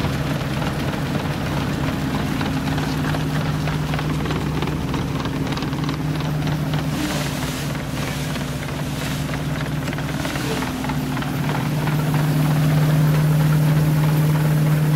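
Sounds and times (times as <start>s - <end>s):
steady noisy rush: 0.0s - 14.9s
threshing machine humming: 0.0s - 14.9s.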